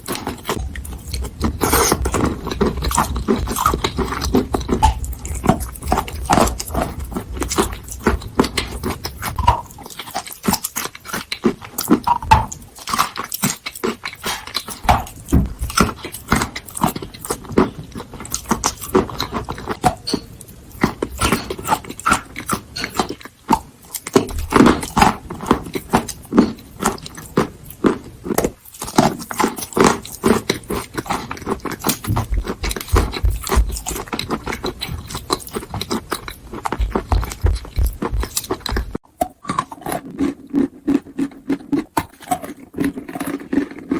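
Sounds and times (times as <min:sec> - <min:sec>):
chalk being chewed: 0:00.0 - 0:43.9.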